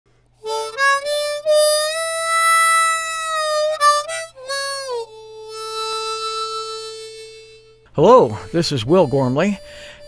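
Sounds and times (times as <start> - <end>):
slow solo instrumental melody: 0.4 - 10.0.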